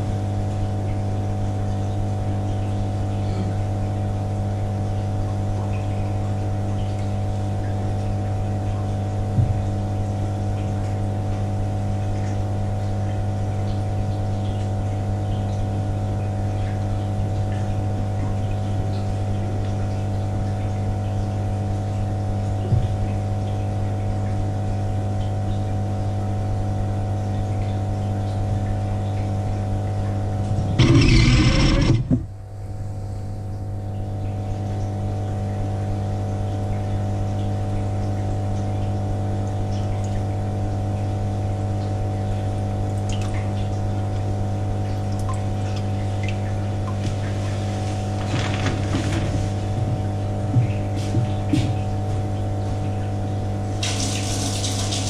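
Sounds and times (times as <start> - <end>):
aquarium pump motor hum: 0.0 - 55.0.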